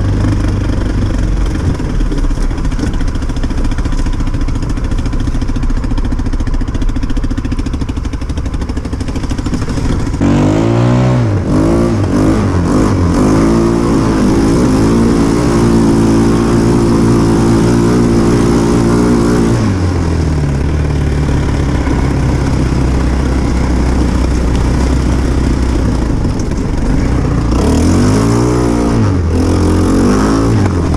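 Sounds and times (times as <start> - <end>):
quad bike engine revving: 0.0 - 30.9.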